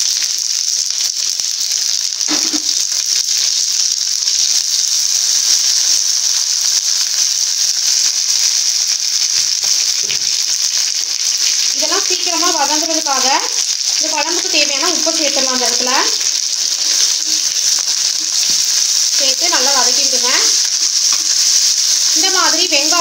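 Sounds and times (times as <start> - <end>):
shallots sizzling in oil: 0.0 - 23.0.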